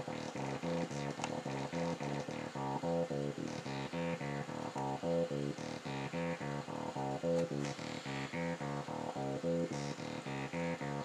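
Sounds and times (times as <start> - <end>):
buzzy synth sequence: 0.0 - 11.0.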